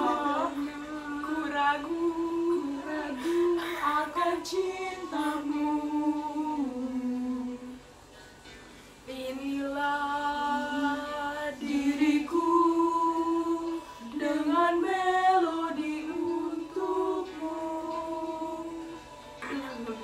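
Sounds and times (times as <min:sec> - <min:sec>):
girls singing unaccompanied: 0:00.0 - 0:07.8, 0:09.2 - 0:20.0.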